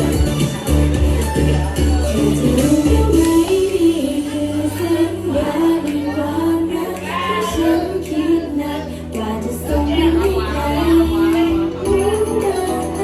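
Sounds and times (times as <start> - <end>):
pop song with female vocals: 0.0 - 13.0.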